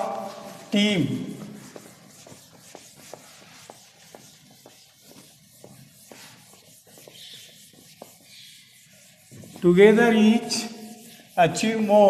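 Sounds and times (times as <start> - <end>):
duster rubbing on chalkboard: 0.0 - 12.0.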